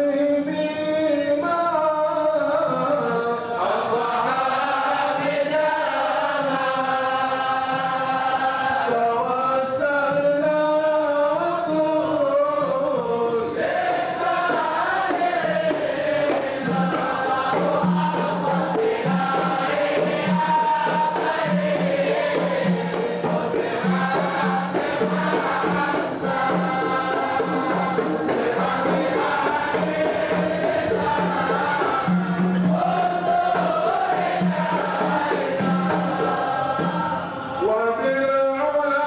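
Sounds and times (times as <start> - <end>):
men's chorus singing: 0.0 - 39.0.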